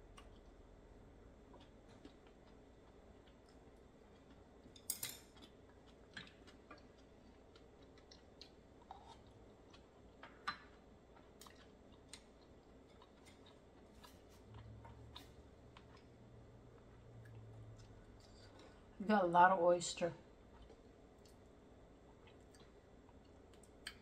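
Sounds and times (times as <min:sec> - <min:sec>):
person chewing oysters: 0:01.4 - 0:19.0, 0:20.4 - 0:24.0.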